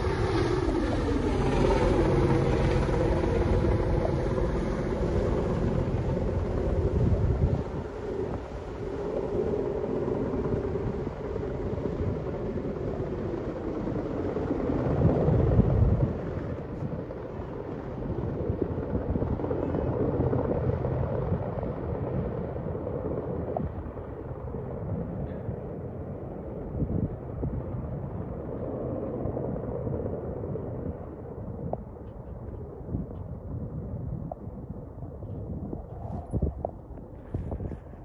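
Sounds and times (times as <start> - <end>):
distant helicopter drone: 0.0 - 38.0
wind buffeting microphone: 0.0 - 38.0.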